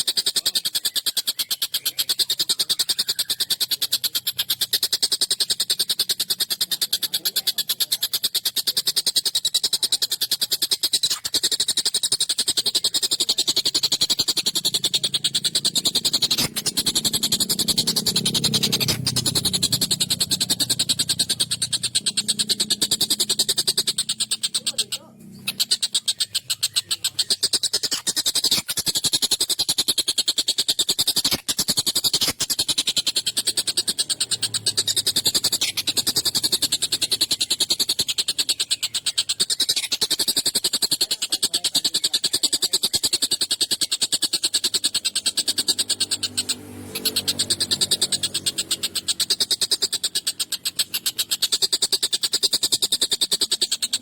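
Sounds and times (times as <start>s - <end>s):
kingfisher chattering call: 0.0s - 54.0s.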